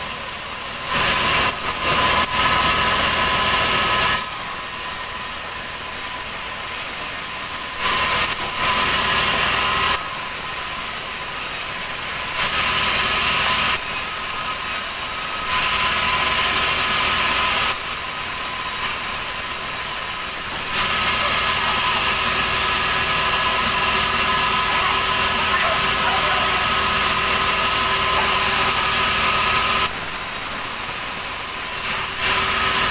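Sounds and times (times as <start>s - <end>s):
band saw cutting log: 0.0s - 32.9s.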